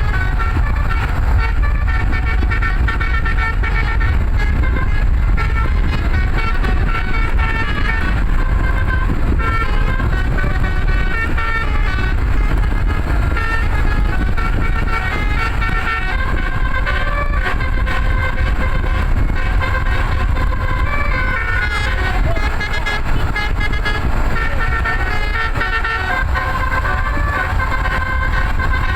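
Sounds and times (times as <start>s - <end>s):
loud low rumble: 0.0s - 28.9s
musical air horn tune: 0.0s - 28.9s.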